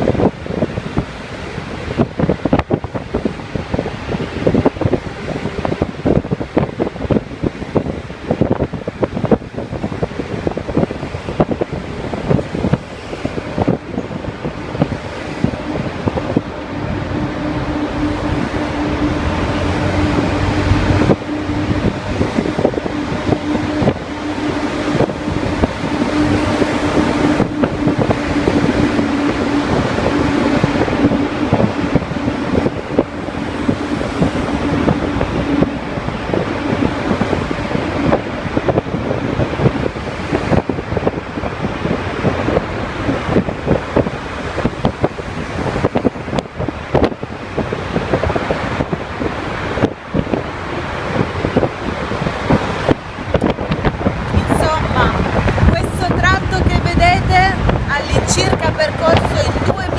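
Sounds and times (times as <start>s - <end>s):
car engine and road noise: 0.0s - 59.9s
steady hum: 0.0s - 59.9s
wind buffeting microphone: 0.0s - 59.9s.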